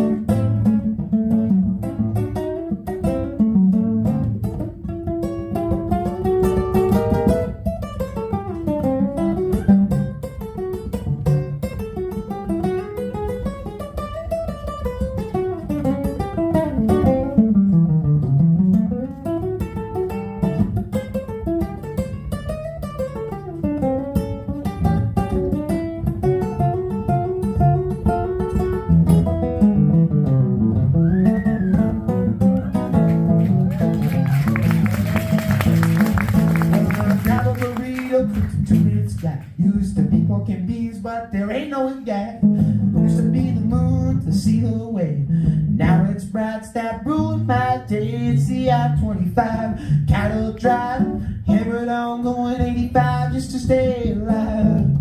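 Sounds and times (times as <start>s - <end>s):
acoustic guitar blues playing: 0.0s - 55.0s.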